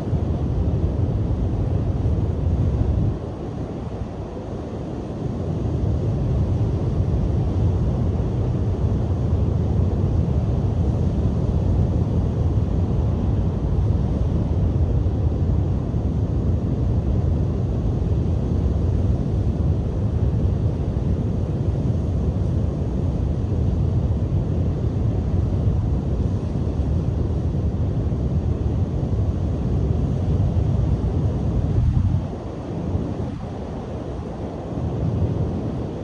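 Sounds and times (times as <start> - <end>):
strong wind buffeting microphone: 0.0 - 36.0.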